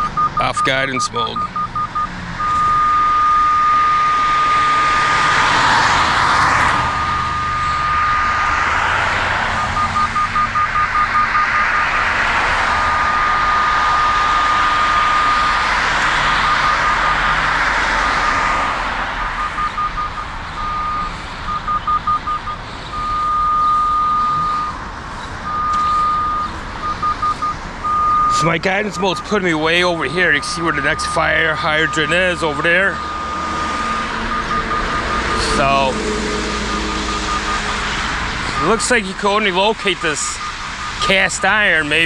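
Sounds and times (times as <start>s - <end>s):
high electronic beeping tone: 0.0s - 6.1s, 6.8s - 17.4s, 19.2s - 24.8s, 25.4s - 42.0s
passing road traffic: 0.0s - 42.0s.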